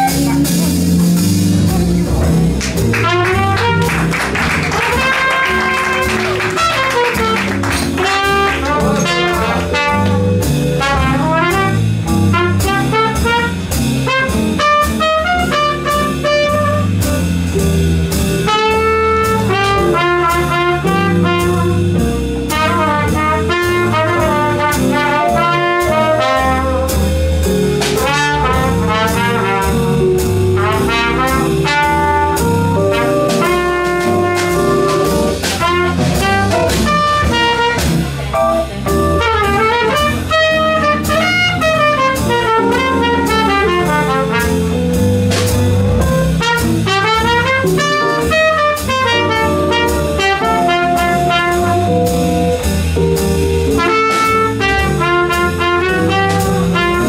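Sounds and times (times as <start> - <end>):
double bass: 0.0 - 57.0
drums: 0.0 - 57.0
piano: 0.0 - 57.0
trumpet lead: 2.8 - 17.3, 18.5 - 57.0.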